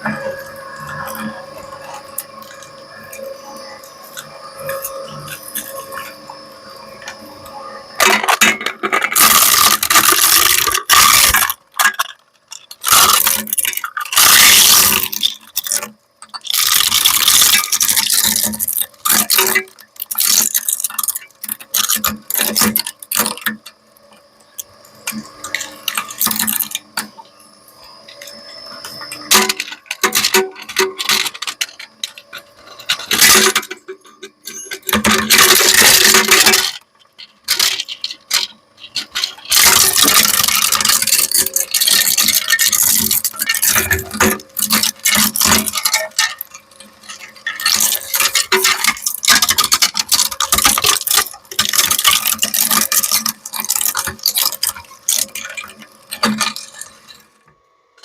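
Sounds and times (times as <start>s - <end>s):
shredder crunching plastic: 0.0s - 6.3s, 7.9s - 23.7s, 24.6s - 27.2s, 28.2s - 57.6s.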